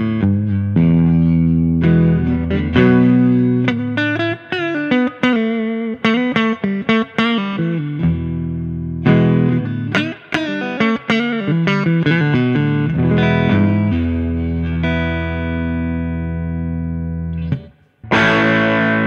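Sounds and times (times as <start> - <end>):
electric guitar: 0.0 - 19.0.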